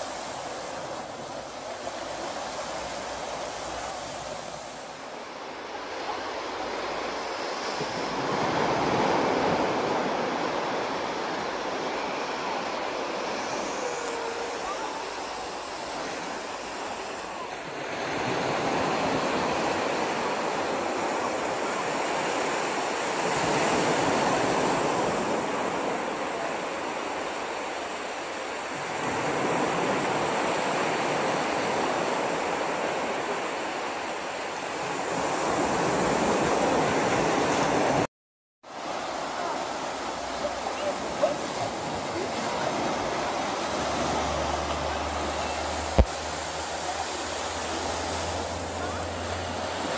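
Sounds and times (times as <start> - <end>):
sea surf breaking on beach: 0.0 - 38.1, 38.7 - 49.9.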